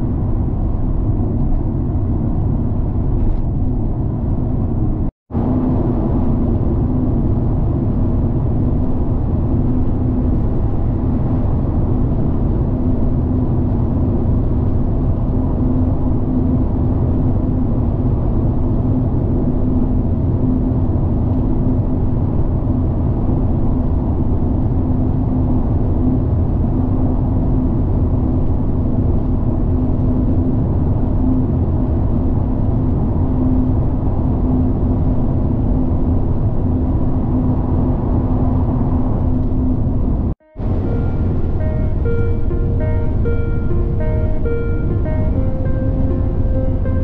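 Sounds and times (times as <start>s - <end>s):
car engine drone: 0.0s - 47.0s.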